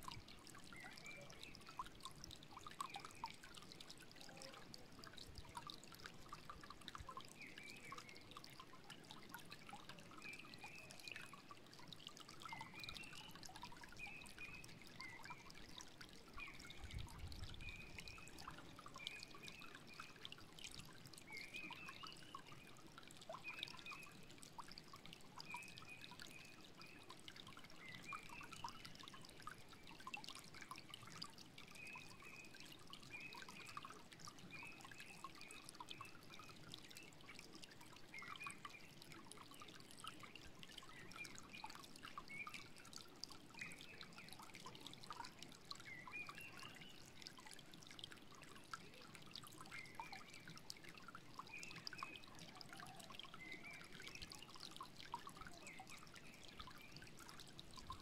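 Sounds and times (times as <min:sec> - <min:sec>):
small water splashes: 0:00.0 - 0:58.0
stream flowing: 0:00.0 - 0:58.0.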